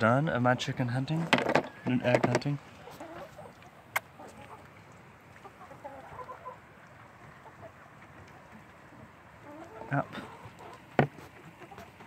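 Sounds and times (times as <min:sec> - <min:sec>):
chickens clucking: 0:01.1 - 0:12.0.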